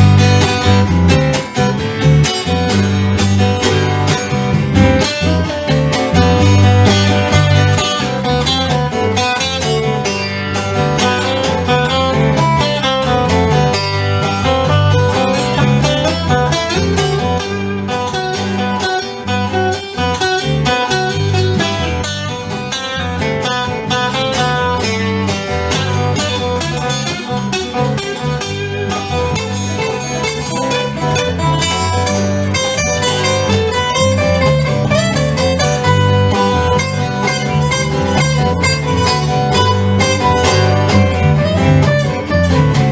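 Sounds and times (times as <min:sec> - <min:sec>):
acoustic guitar picked and strummed: 0:00.0 - 0:42.9
steady bass line: 0:00.0 - 0:42.9.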